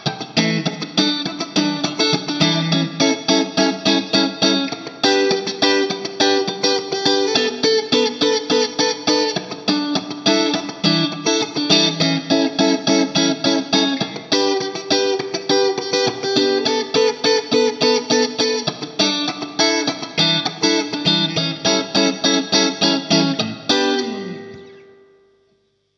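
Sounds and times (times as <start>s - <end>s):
electric guitar rhythmic chords: 0.0s - 25.7s.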